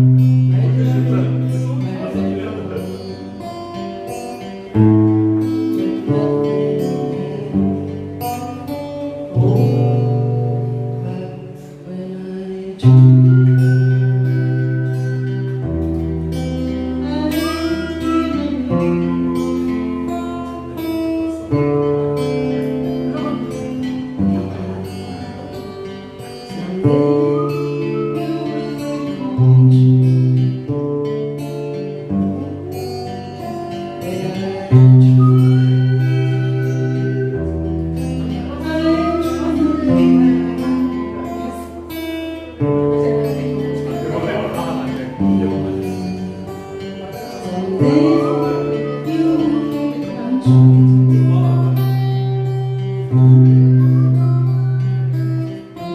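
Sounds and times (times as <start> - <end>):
acoustic guitars playing: 0.0 - 55.9.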